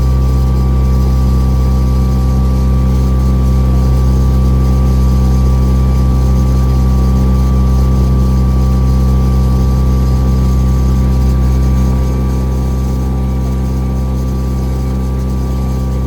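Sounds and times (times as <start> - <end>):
boat engine low drone: 0.0 - 16.0.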